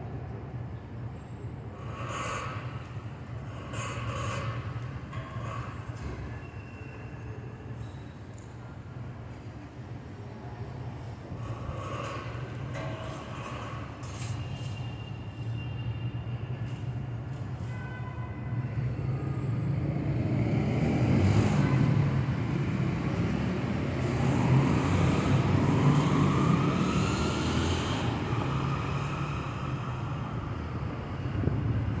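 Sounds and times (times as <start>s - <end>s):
street traffic rumbling: 0.0s - 32.0s.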